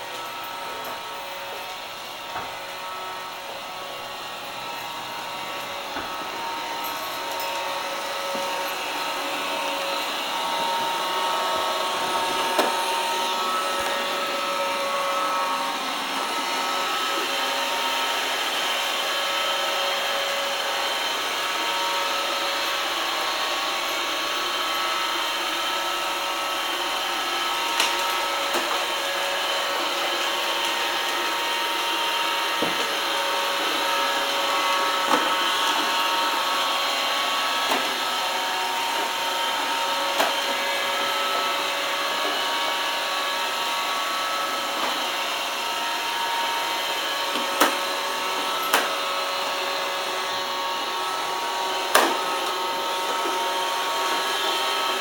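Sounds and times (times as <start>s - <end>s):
robot vacuum whirring: 0.0s - 55.0s.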